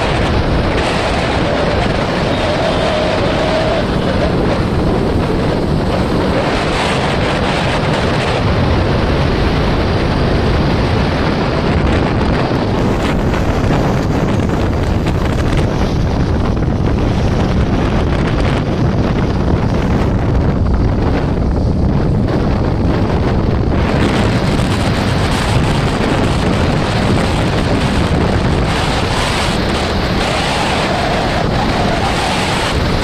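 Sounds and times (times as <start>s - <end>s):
vehicle rumble: 0.0s - 33.0s
wind buffeting microphone: 0.0s - 33.0s.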